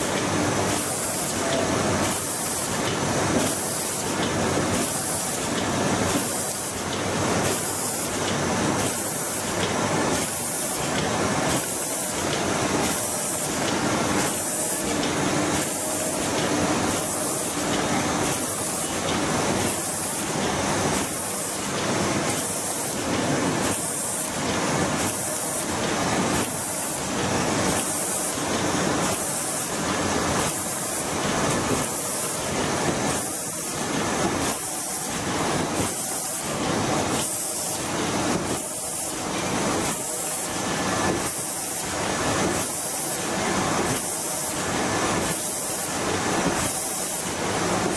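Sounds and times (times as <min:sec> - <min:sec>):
printing machine hissing and pulsing: 0:00.0 - 0:47.9.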